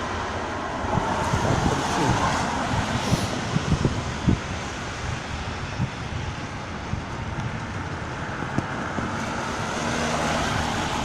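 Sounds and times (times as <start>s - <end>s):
tyres hissing on wet road: 0.0s - 11.0s
vehicle engine hum: 0.0s - 11.0s.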